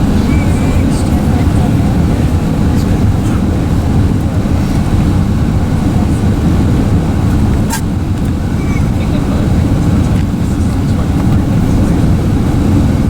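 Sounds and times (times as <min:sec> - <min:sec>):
airliner cabin engine and airflow rumble: 0:00.0 - 0:13.0.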